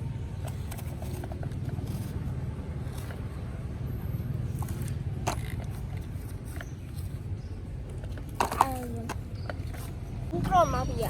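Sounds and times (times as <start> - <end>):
toy trucks clicking and scraping: 0.1 - 11.0.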